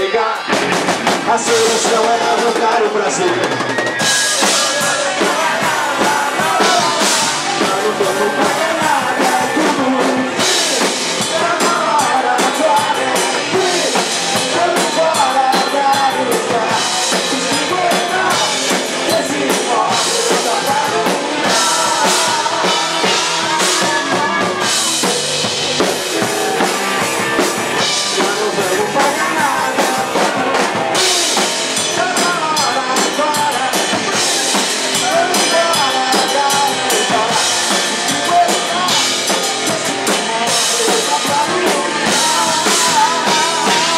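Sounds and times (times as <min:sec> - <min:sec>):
live rock band playing: 0:00.0 - 0:43.9
drum kit kick and snare: 0:03.3 - 0:43.9.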